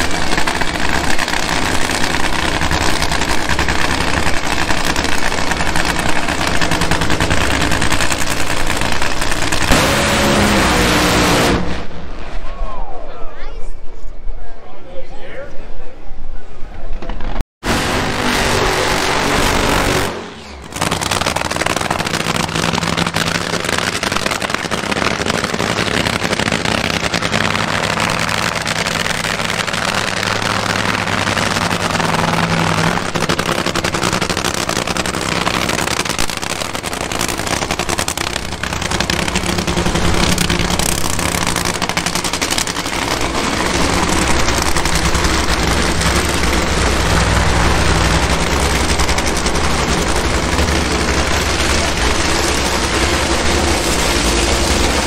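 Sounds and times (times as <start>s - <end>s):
drag racing engine crackling: 0.0s - 12.3s, 17.0s - 55.0s.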